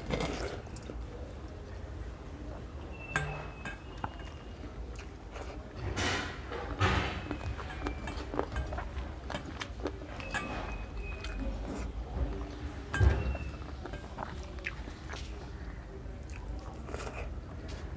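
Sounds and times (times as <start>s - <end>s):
person chewing food: 3.5s - 17.9s.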